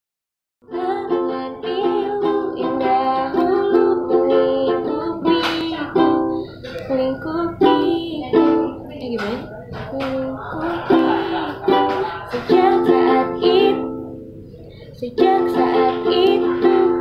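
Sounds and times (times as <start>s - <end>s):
plucked string instrument: 0.6s - 17.0s.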